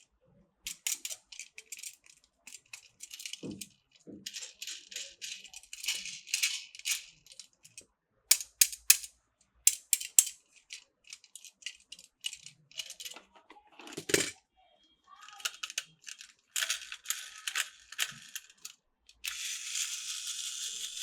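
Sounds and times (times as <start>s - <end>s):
plastic toy parts rattling: 0.7s - 14.4s, 15.2s - 21.0s.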